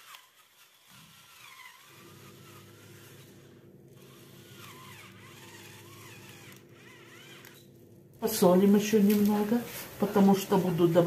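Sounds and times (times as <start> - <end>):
electric pepper mill whirring: 0.0 - 11.0.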